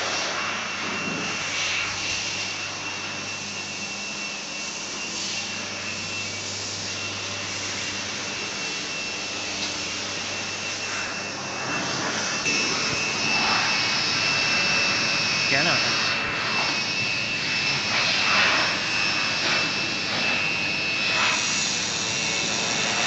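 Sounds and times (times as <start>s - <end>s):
cooling fan noise: 0.0s - 23.0s
thin high whine: 0.0s - 23.0s.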